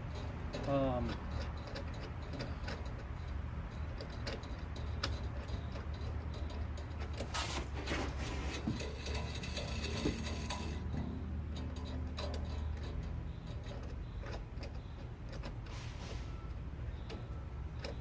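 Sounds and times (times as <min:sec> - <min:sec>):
railing hardware clicks and scrapes: 0:00.0 - 0:18.0.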